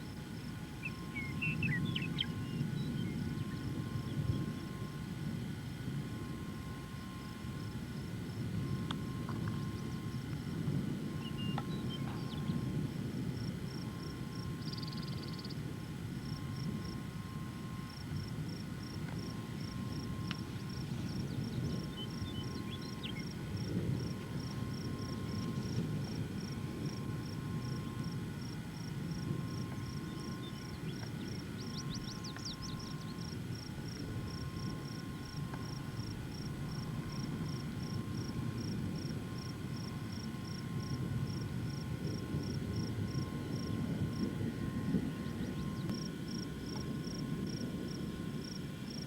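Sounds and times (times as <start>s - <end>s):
pulsing insect chirping: 0.0s - 49.0s
wind rumbling on microphone: 0.0s - 49.0s.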